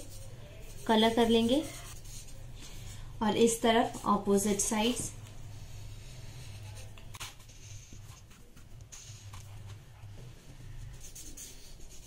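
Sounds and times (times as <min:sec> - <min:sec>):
marker scribbling on paper: 0:00.0 - 0:12.0.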